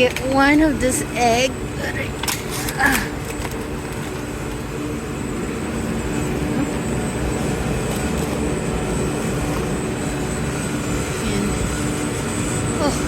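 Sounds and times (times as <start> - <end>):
fans running: 0.0 - 13.0
refrigerated cases humming: 0.0 - 13.0.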